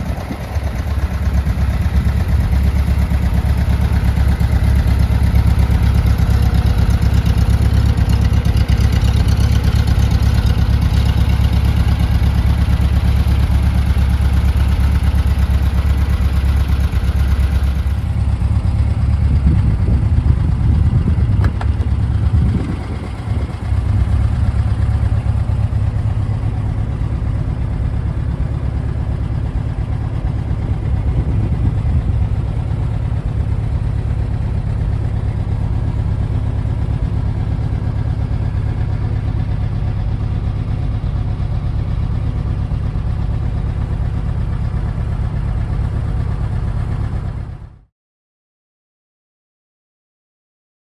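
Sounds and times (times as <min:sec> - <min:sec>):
car engine running: 0:00.0 - 0:47.6.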